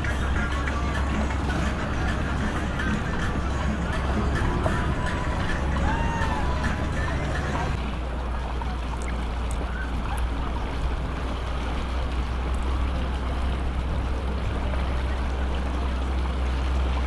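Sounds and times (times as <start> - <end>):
boat engine running: 0.0 - 17.0
water noise: 0.0 - 17.0.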